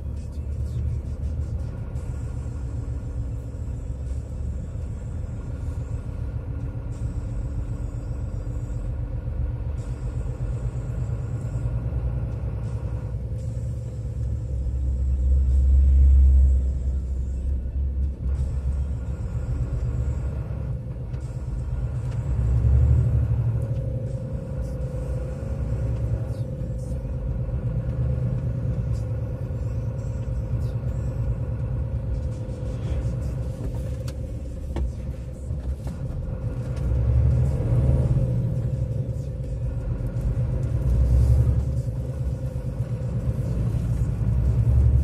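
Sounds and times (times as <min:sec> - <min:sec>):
road noise: 0:00.0 - 0:45.0
vehicle engine rumble: 0:00.0 - 0:45.0.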